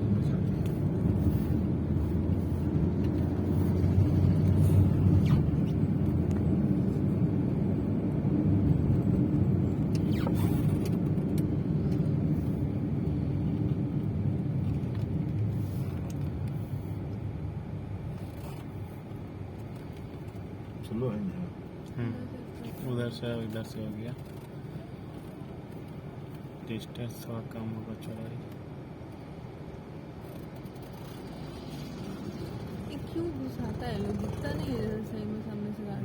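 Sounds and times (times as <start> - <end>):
road noise: 0.0 - 36.0
vehicle engines rumbling: 0.0 - 36.0.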